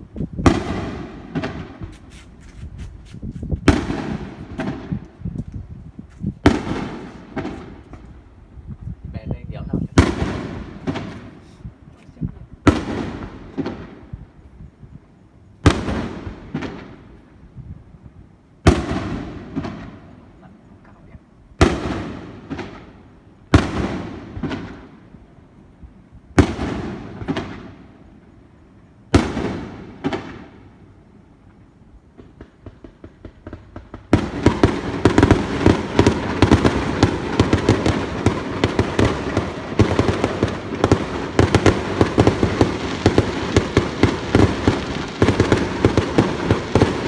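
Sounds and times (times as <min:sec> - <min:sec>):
firework bangs: 0:00.0 - 0:05.3, 0:06.3 - 0:08.3, 0:09.6 - 0:11.8, 0:12.6 - 0:14.4, 0:15.6 - 0:17.6, 0:18.6 - 0:20.6, 0:21.6 - 0:28.3, 0:29.1 - 0:31.0, 0:32.0 - 0:47.0
firework crackles: 0:00.0 - 0:47.0.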